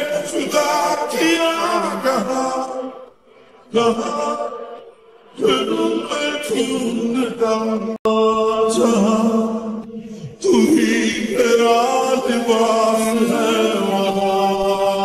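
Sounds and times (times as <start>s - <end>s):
chanted singing: 0.0s - 15.0s.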